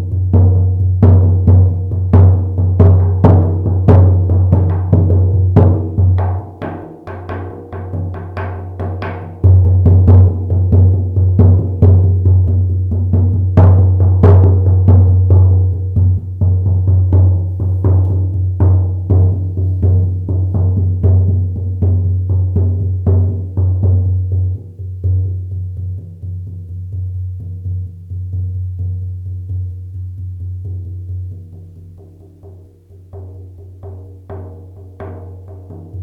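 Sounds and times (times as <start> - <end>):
frame drum beats: 0.0 - 36.0.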